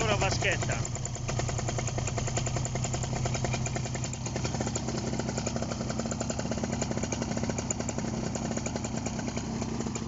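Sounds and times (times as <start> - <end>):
paramotor engine idling: 0.0 - 10.0.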